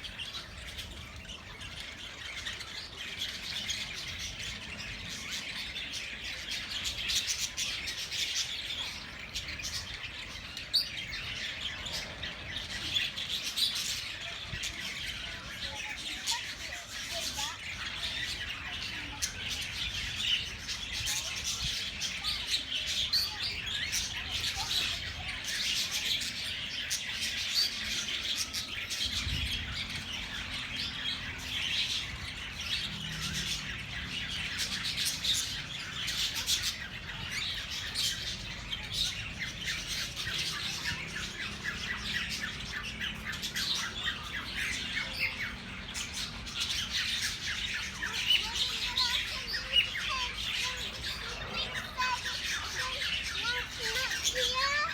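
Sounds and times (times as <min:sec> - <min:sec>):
flock of small birds chattering: 0:00.0 - 0:54.9.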